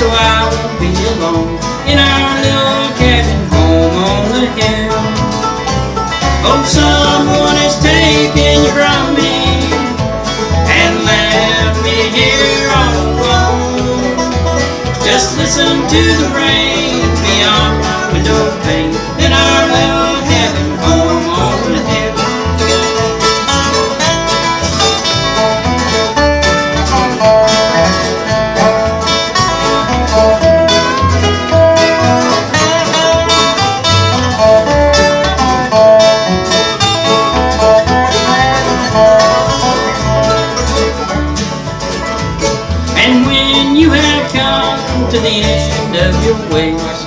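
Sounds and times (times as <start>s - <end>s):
bluegrass band playing: 0.0s - 47.0s
resonator guitar lead melody: 0.0s - 47.0s.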